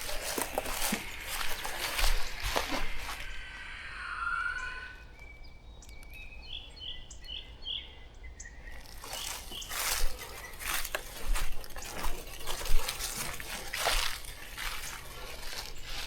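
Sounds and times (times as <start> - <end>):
bird calling: 0.0 - 16.0.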